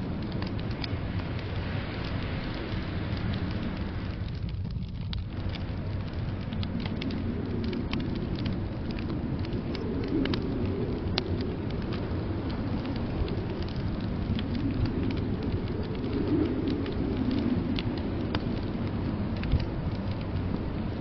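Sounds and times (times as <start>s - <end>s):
low rumble of blizzard wind: 0.0s - 21.0s
wood fire crackling and popping: 0.0s - 21.0s.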